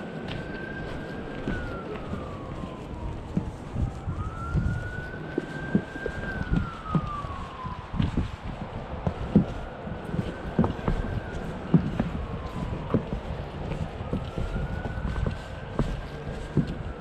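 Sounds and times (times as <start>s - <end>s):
emergency siren wailing: 0.0s - 17.0s
footsteps on wooden steps: 0.0s - 17.0s.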